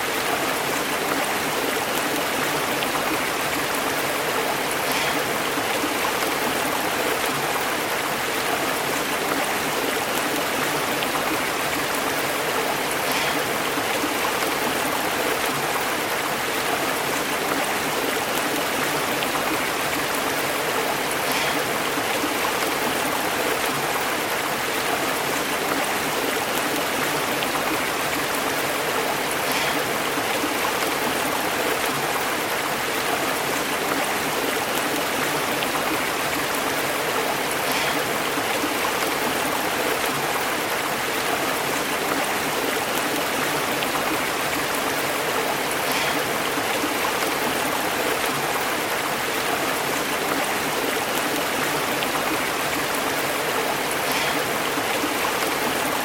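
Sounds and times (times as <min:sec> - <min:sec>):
stream burbling over rocks: 0:00.0 - 0:56.0.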